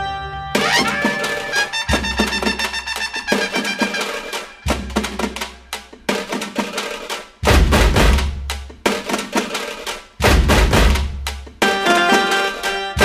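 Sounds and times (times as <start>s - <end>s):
instrumental music with drums: 0.6s - 13.0s.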